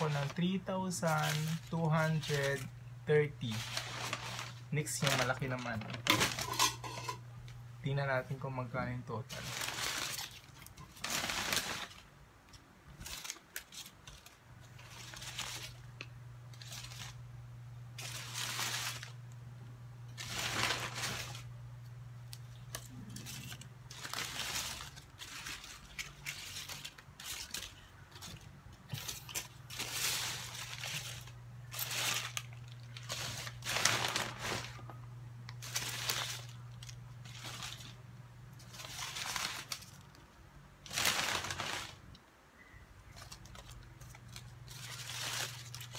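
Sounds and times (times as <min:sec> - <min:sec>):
banknotes rustling: 0:00.0 - 0:07.2, 0:07.9 - 0:17.2, 0:18.0 - 0:19.2, 0:20.2 - 0:21.5, 0:22.4 - 0:34.9, 0:35.6 - 0:40.2, 0:40.8 - 0:45.9
steady low hum: 0:00.0 - 0:45.9.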